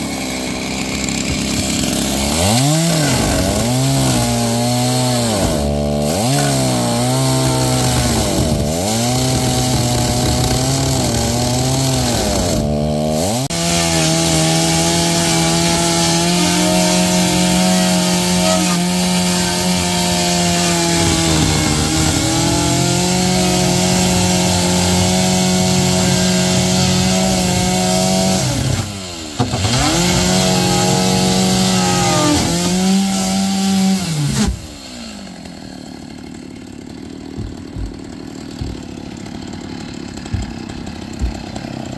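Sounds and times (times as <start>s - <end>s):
chainsaw cutting at high revs: 0.0s - 41.9s.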